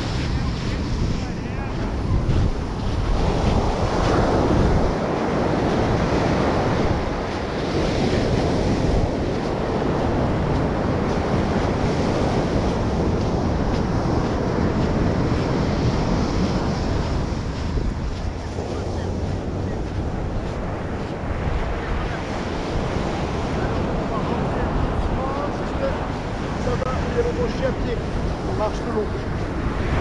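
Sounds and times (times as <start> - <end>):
surf washing onto beach: 0.0 - 30.0
wind rumbling on microphone: 0.0 - 30.0.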